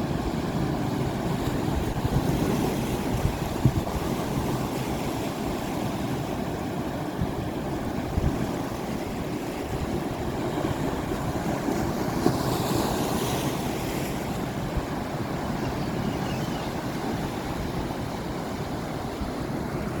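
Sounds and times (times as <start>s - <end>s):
sea waves washing onto shore: 0.0s - 20.0s
wind rumbling on microphone: 0.0s - 20.0s.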